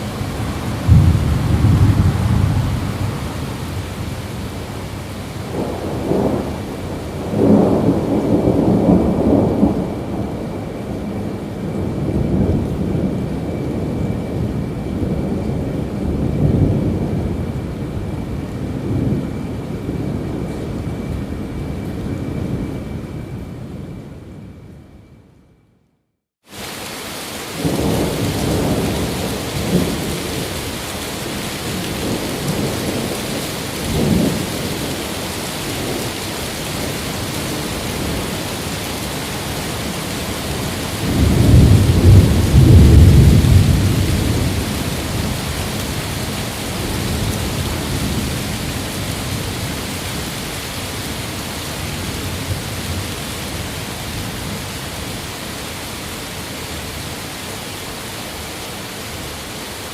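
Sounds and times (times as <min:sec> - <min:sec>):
heavy rain hissing: 0:00.0 - 0:21.4, 0:26.4 - 0:59.9
thunder rumbling: 0:00.0 - 0:25.2, 0:26.6 - 0:55.4.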